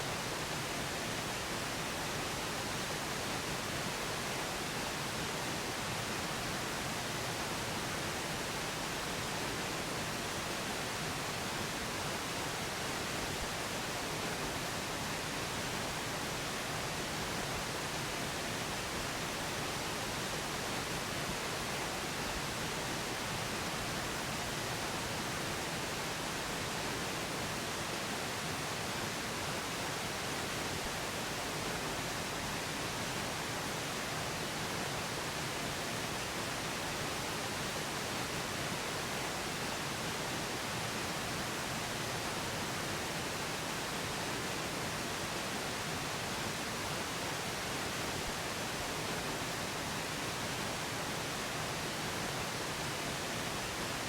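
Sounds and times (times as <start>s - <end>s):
steady pink noise hiss: 0.0s - 54.0s.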